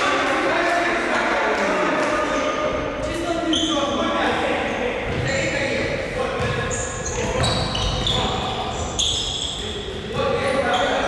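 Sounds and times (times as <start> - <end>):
reverberant sports hall din: 0.0 - 11.0.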